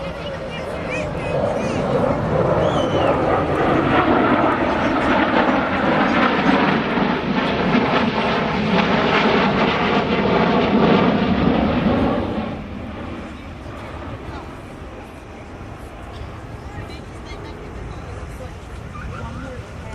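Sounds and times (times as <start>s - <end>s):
aircraft engine flying past: 0.0s - 19.9s.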